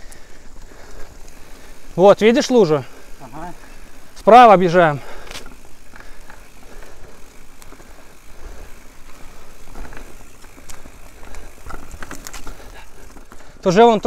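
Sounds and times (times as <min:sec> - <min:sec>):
bike knocking and rattling: 0:00.0 - 0:14.0
bike tyres rolling on soil: 0:00.0 - 0:14.0.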